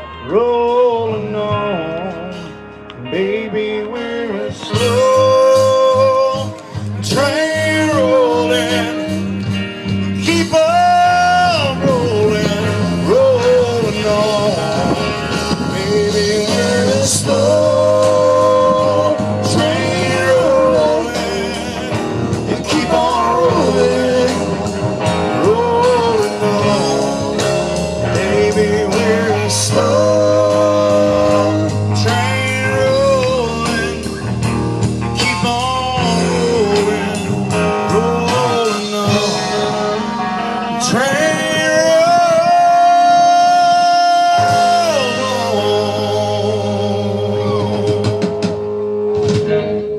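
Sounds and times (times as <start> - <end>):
bass and drums: 0.0 - 49.9.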